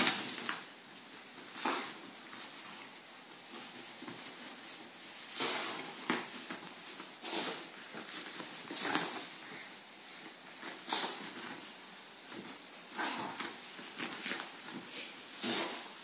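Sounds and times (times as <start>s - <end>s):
bedding rustling: 0.0s - 16.0s.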